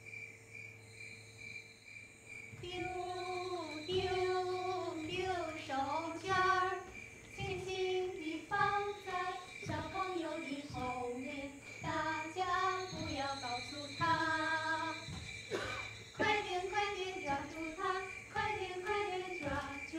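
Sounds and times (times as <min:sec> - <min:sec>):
steady high chirring: 0:00.0 - 0:19.9
child singing a slow tune: 0:02.6 - 0:19.9.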